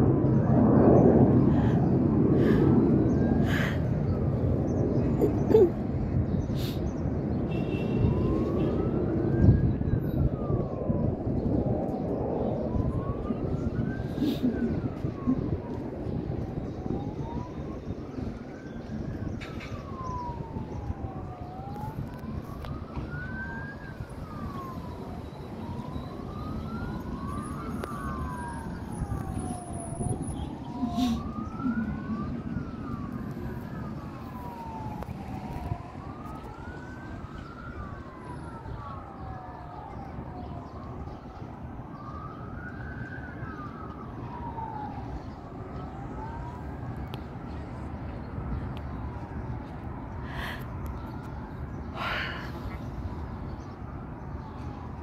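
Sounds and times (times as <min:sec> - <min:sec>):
emergency vehicle sirens wailing: 0:00.0 - 0:55.0
low rumble of city noise: 0:00.0 - 0:55.0.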